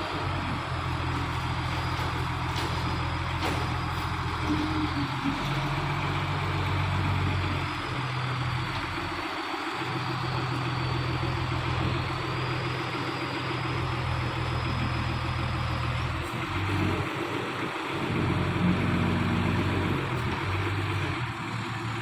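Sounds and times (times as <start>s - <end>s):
truck diesel engine idling: 0.0s - 22.0s.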